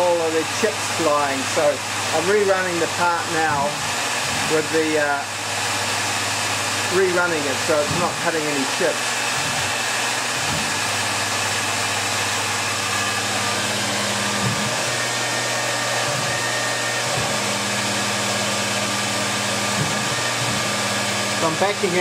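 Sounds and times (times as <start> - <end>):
lathe chuck whirring: 0.0 - 22.0.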